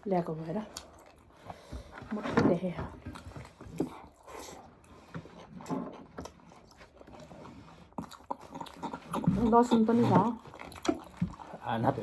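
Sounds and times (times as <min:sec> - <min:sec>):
people chewing and biting food: 0:00.0 - 0:12.0.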